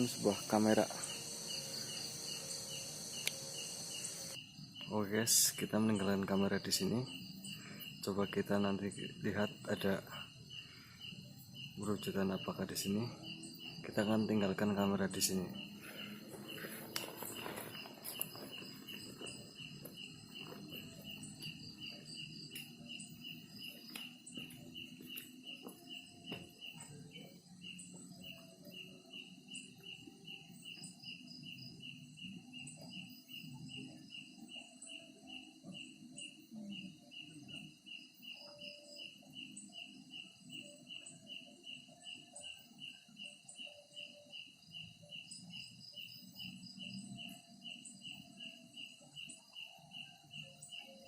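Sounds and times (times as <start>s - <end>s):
crickets chirping: 0.0s - 51.0s
faint high insect calls: 0.0s - 51.0s.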